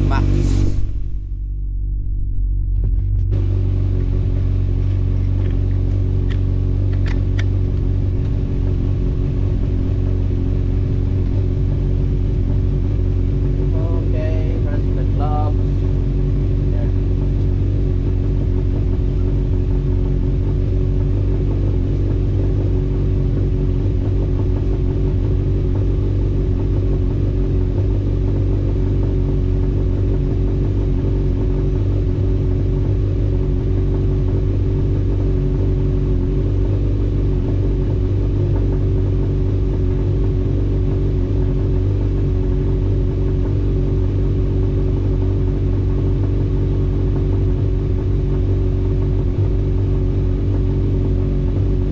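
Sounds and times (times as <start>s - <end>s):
motorcycle engine idling: 2.8s - 51.9s.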